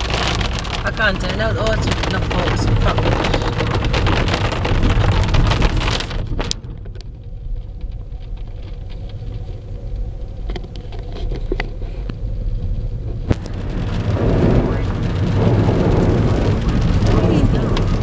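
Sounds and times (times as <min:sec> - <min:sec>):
car road rumble: 0:00.0 - 0:18.0
hail and rain drumming on car: 0:00.0 - 0:18.0.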